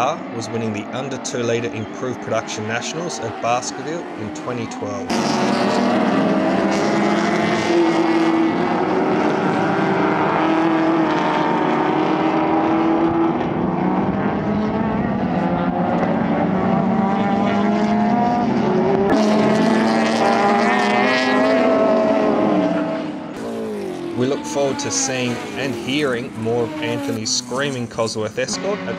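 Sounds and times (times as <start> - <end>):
race car engine accelerating: 0.0 - 28.9
racing car engines at high revs: 0.0 - 28.9.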